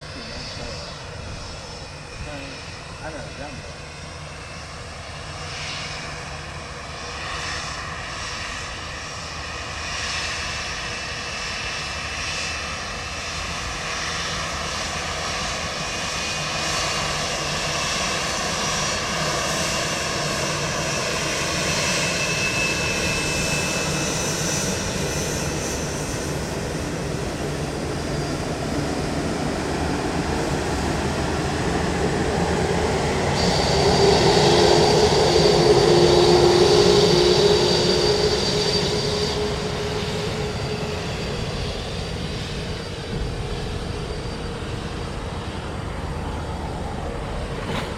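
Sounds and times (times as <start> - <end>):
jet engines spooling up: 0.1 - 47.9.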